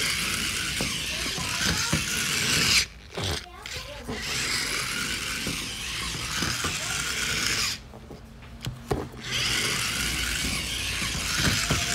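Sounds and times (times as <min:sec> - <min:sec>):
toy motor grinding whirr: 0:00.0 - 0:07.9, 0:08.9 - 0:11.9.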